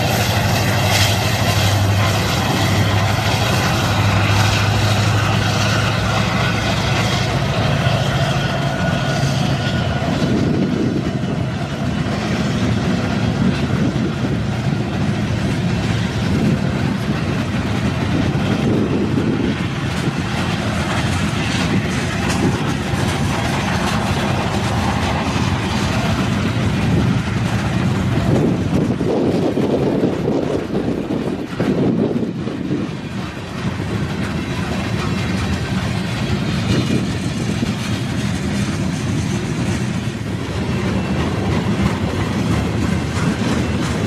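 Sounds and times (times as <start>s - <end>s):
diesel locomotive engines droning: 0.0s - 44.0s
train wheels clattering on rails: 0.0s - 44.0s.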